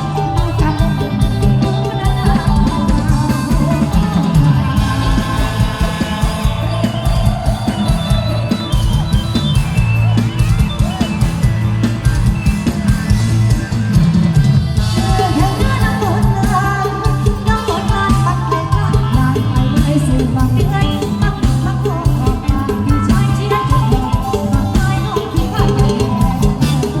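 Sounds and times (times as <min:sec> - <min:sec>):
drum kit and bass beat: 0:00.0 - 0:27.0
live band playing dance music: 0:00.0 - 0:27.0.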